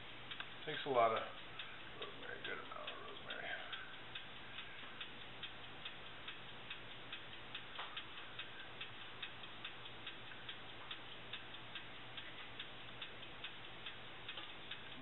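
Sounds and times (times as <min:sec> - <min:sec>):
faint steady ticking: 0:00.0 - 0:15.0
low steady hum: 0:00.0 - 0:15.0.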